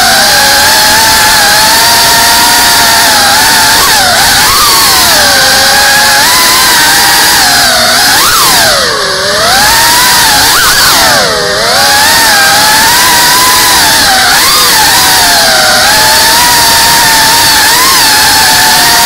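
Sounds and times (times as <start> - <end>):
drone motors and propellers whining: 0.0 - 19.0.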